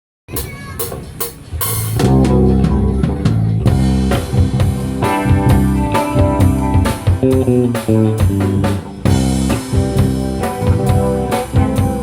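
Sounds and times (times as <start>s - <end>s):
drum hits: 0.3s - 12.0s
bass and guitar chords: 2.0s - 12.0s.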